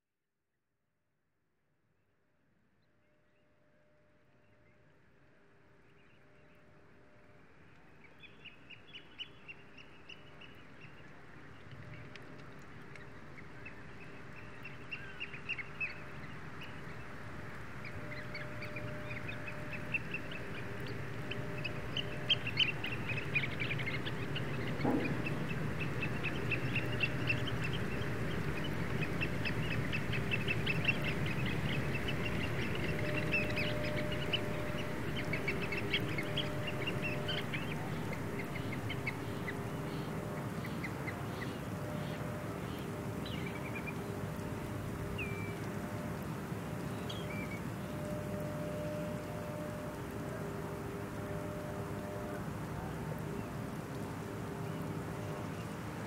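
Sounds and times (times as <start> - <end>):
waterbirds calling: 5.7 - 56.0.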